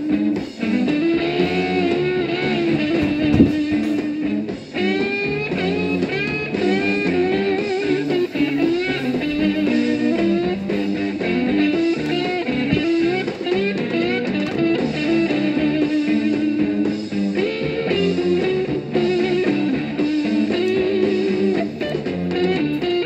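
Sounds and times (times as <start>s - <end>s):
guitar-led instrumental music: 0.0s - 23.0s.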